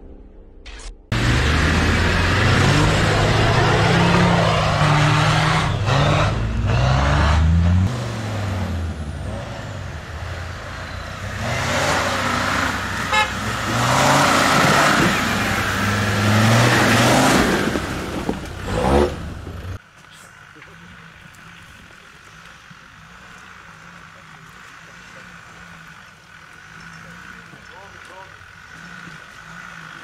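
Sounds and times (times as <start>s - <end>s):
diesel engine revving: 1.1s - 30.0s.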